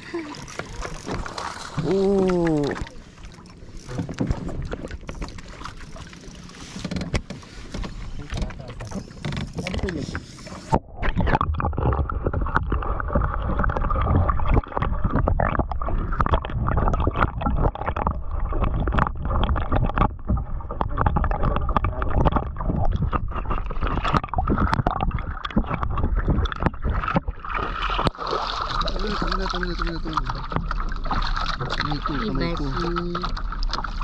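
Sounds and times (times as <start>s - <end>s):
muffled underwater churning: 0.0s - 34.0s.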